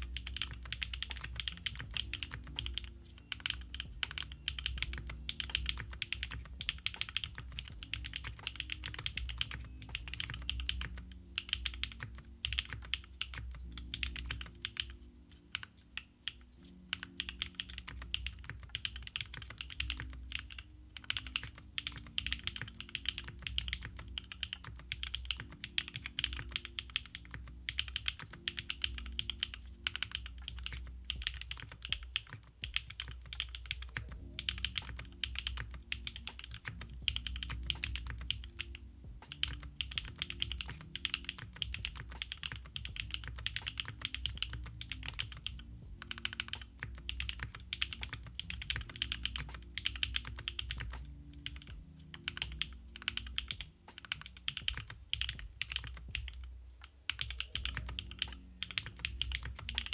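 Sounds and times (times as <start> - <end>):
fast typing on mechanical keyboard: 0.0 - 56.5, 57.1 - 59.9.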